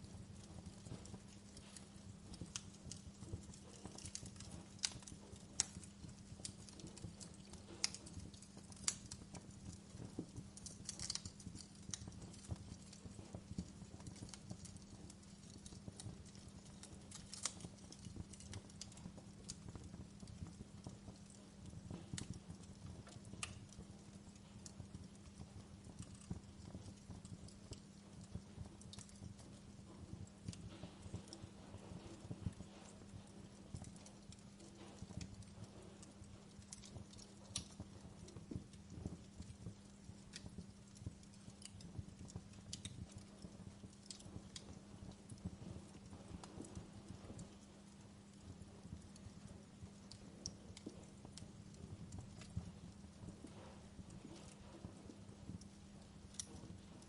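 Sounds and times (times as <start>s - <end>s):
low steady rumble: 0.0s - 57.0s
wood fire crackling: 0.0s - 57.0s.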